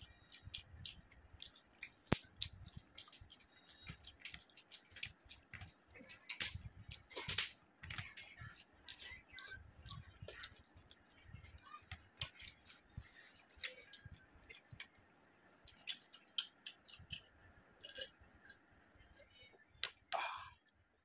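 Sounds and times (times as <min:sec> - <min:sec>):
wet chewing clicks and smacks: 0:00.0 - 0:18.7.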